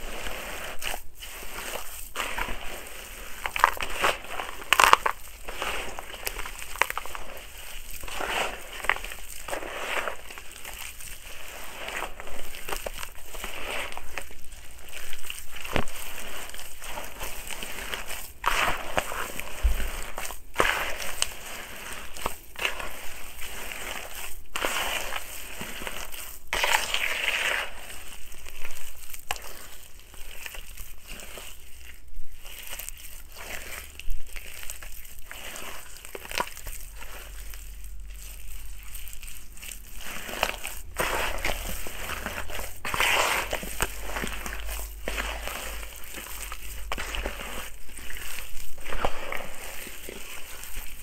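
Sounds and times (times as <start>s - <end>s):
hands crushing wet gritty soil: 0.0s - 51.0s.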